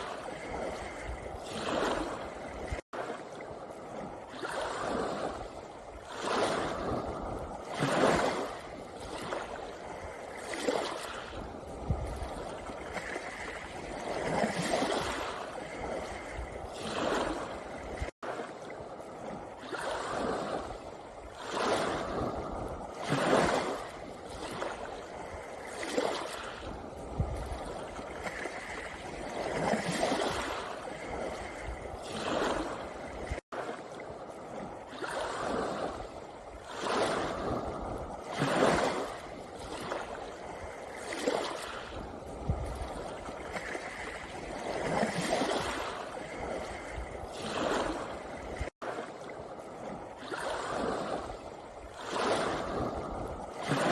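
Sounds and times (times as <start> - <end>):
waves washing over pebbles: 0.0 - 53.9.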